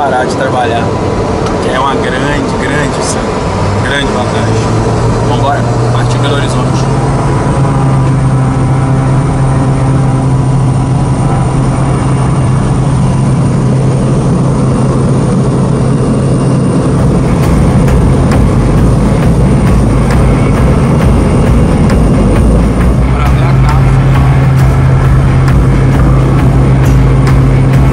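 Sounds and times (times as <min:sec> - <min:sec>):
propeller drone in cabin: 0:00.0 - 0:27.9.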